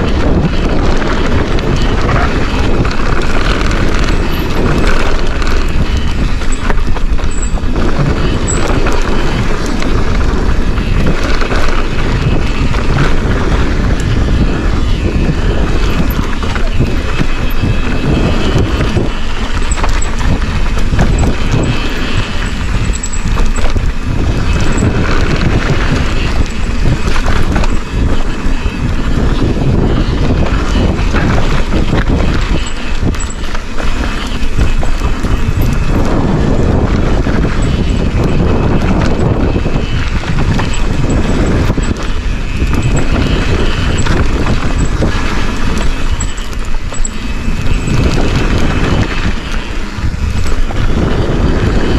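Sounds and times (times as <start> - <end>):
bike rattling over dirt trail: 0.0 - 51.9
wind rushing over microphone: 0.0 - 51.9.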